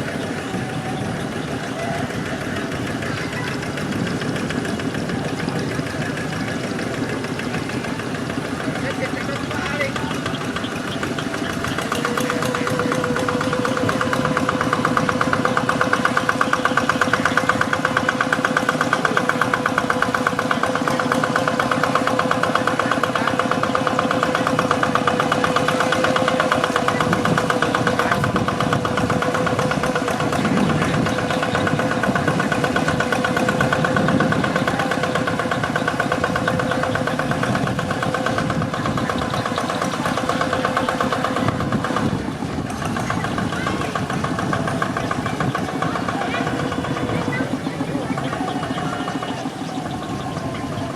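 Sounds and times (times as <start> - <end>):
diesel engine chugging: 0.0 - 50.9.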